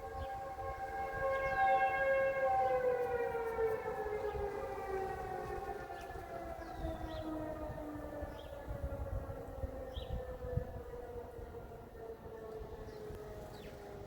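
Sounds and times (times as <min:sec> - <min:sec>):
warning siren winding down: 0:00.0 - 0:14.0.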